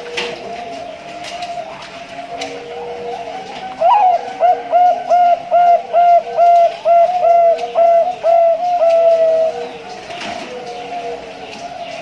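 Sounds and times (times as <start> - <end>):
dove cooing: 0.0 - 12.0
fainter lower dove coo: 0.0 - 12.0.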